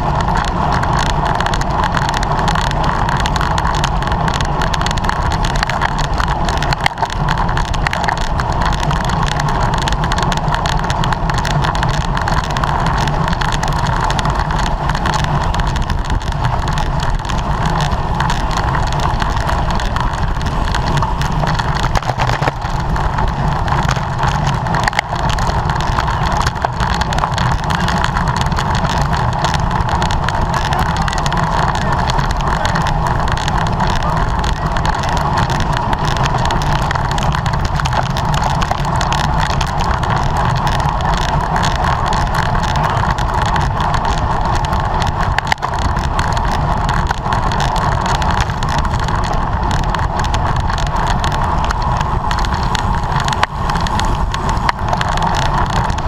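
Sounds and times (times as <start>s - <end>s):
bicycle tyre and drivetrain noise: 0.0s - 56.0s
wind rushing on microphone: 0.0s - 56.0s.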